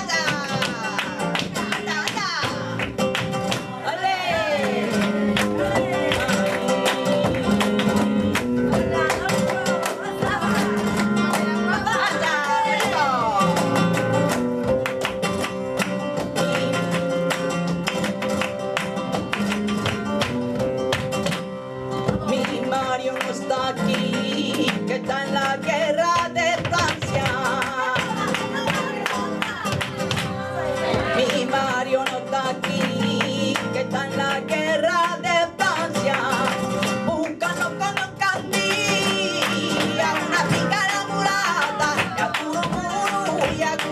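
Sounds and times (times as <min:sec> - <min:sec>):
flamenco guitar playing: 0:00.0 - 0:43.9.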